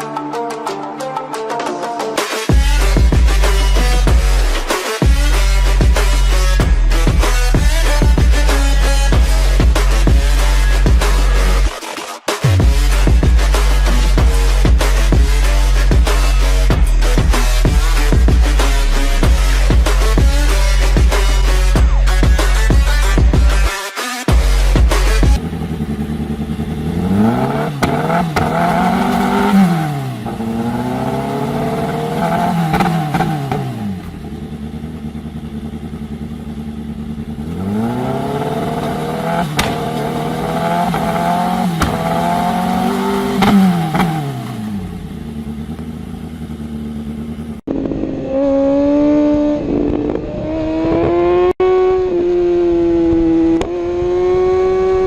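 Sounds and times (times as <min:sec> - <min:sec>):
motorcycle engine revving: 0:02.5 - 0:11.8, 0:12.4 - 0:23.7, 0:24.3 - 0:55.0.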